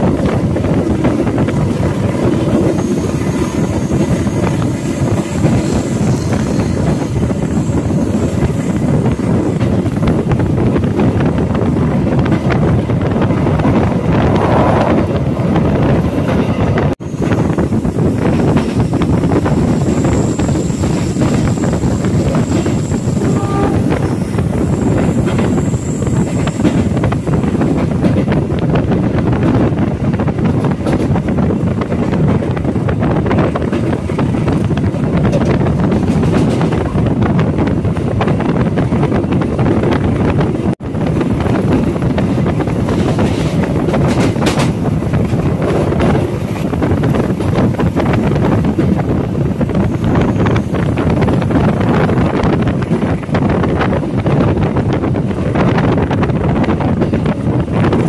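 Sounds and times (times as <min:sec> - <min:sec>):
train wheels rumbling on rails: 0:00.0 - 0:58.0
wind buffeting the microphone: 0:00.0 - 0:58.0.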